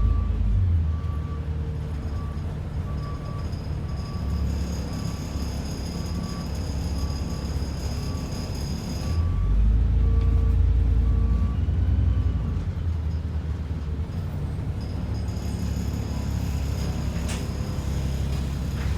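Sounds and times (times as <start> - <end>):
bus engine rumbling: 0.0 - 18.9.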